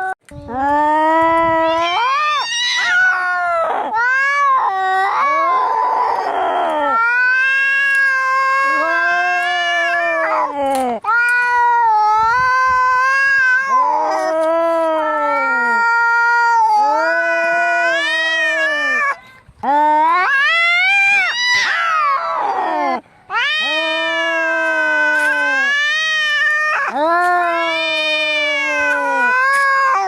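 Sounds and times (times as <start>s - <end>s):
cats yowling: 1.2s - 19.2s, 20.0s - 30.0s.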